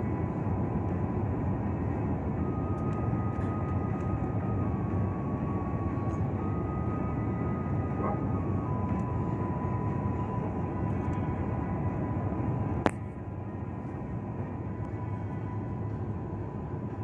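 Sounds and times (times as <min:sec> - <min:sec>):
airliner engine and airflow rumble: 0:00.0 - 0:17.0
higher whine: 0:00.0 - 0:17.0
thin steady whine: 0:00.0 - 0:17.0.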